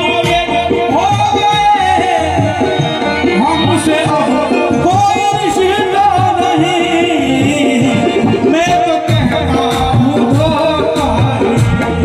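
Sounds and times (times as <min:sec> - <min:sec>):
drum beat: 0:00.0 - 0:12.0
ornamented melody line: 0:00.0 - 0:12.0.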